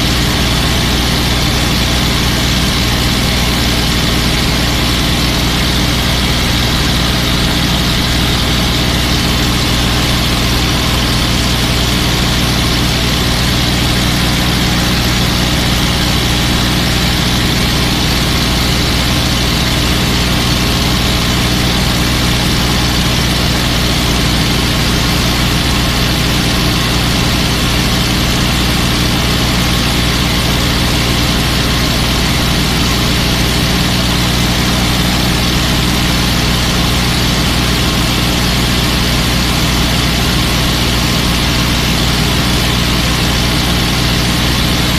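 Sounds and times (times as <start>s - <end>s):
aircraft piston engine running: 0.0s - 44.9s.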